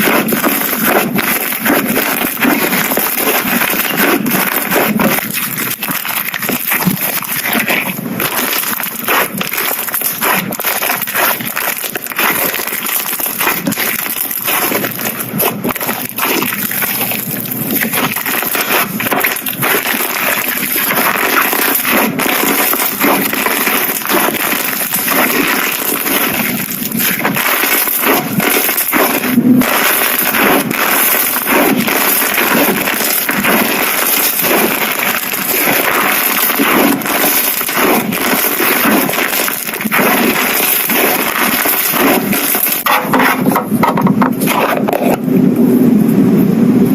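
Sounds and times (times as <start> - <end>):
slime squeezed by hand crackling: 0.0 - 43.6.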